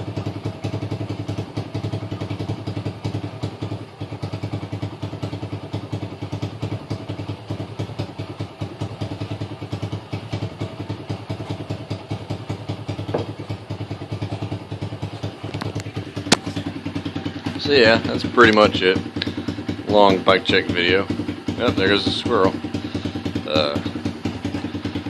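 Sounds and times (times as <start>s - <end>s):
dirt bike engine idling: 0.0s - 25.0s.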